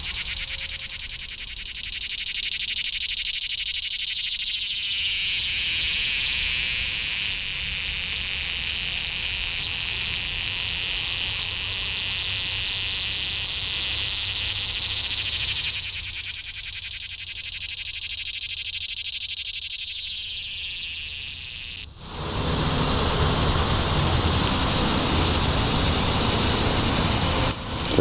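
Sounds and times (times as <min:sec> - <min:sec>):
cicada buzzing: 0:00.0 - 0:28.0.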